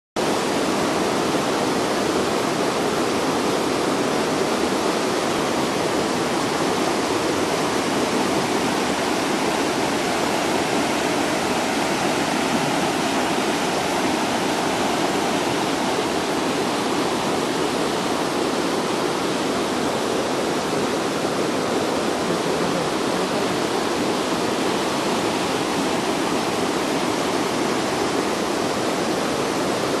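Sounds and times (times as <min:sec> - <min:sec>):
stream rushing over boulders: 0:00.2 - 0:30.0.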